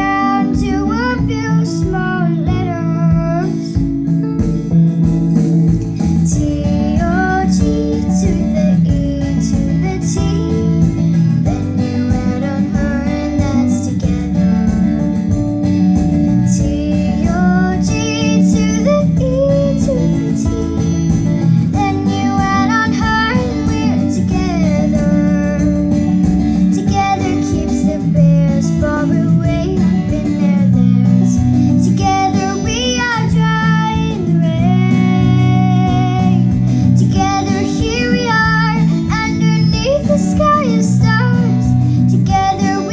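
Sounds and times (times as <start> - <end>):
girl singing pop song: 0.0 - 42.9
strummed acoustic guitar: 0.0 - 42.9.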